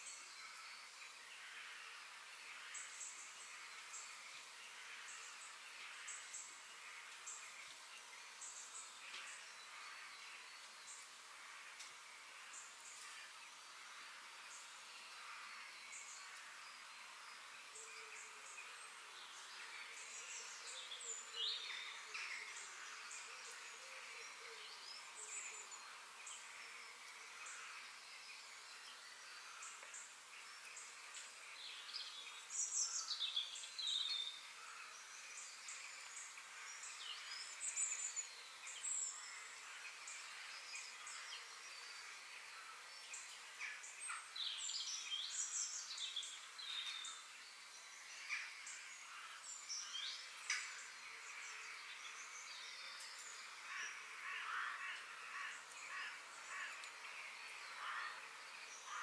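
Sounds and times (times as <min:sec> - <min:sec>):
background hiss of insects: 0:00.0 - 0:59.0
forest birds singing and chirping: 0:00.0 - 0:59.0.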